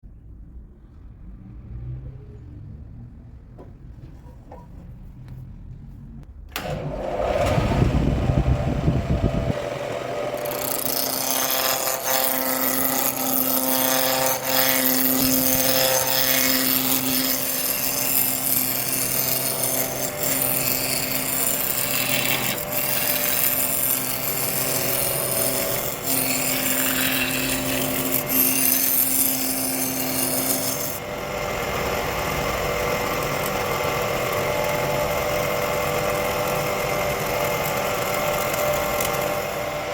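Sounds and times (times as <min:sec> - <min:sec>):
turning tool cutting wood: 0:06.6 - 0:39.9
wood lathe motor hum: 0:06.6 - 0:39.9.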